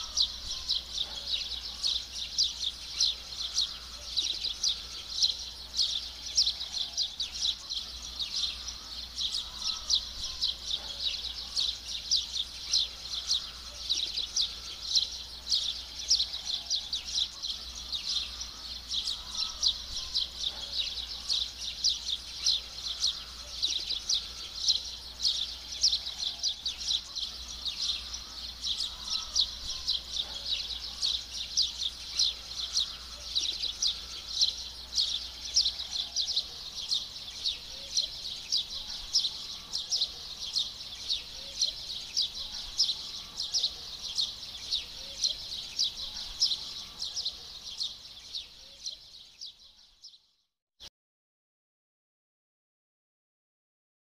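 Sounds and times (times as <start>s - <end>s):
small birds chirping: 0.0s - 50.5s.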